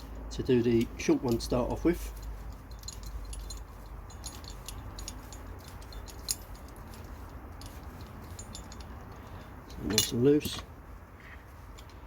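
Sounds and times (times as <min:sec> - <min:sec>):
low steady hum: 0:00.0 - 0:12.0
small metal parts clinking: 0:00.6 - 0:10.7, 0:11.5 - 0:12.0.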